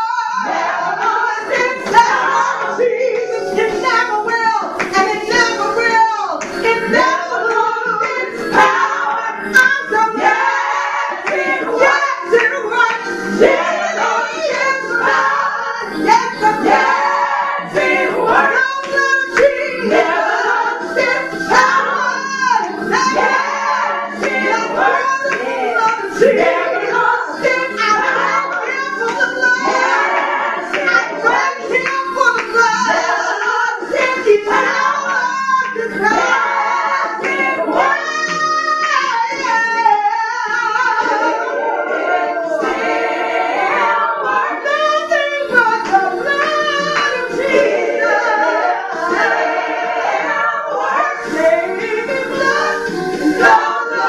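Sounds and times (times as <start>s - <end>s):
group singing gospel song: 0.0s - 54.0s.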